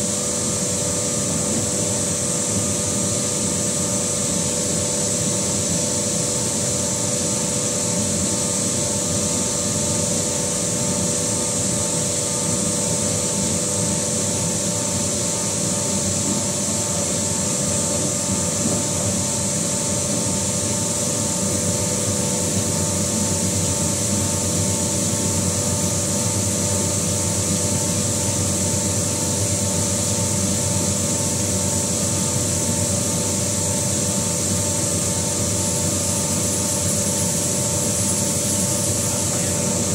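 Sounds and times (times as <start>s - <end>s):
machine hum with whining tones: 0.0s - 39.9s.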